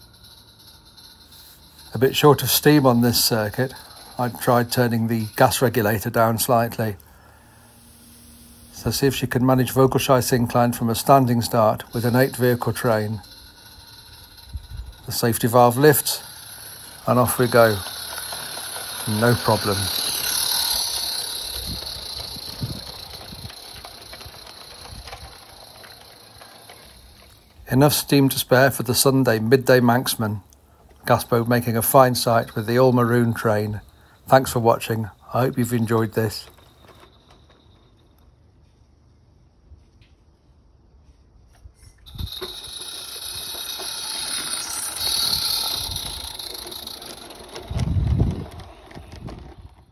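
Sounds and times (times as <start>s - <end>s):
steam locomotive hissing: 0.0s - 37.9s, 41.8s - 49.7s
model train wheels clicking: 0.0s - 38.3s, 42.0s - 49.9s
coaches rolling by: 0.0s - 38.8s, 42.1s - 49.9s.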